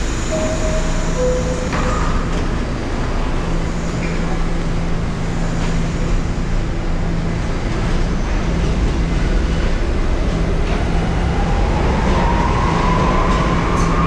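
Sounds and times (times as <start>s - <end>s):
subway train rumble and hum: 0.0s - 14.0s.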